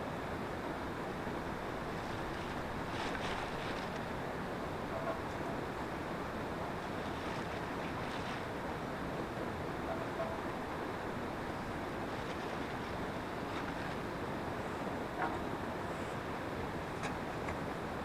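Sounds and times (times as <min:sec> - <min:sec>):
rushing wind: 0:00.0 - 0:18.0.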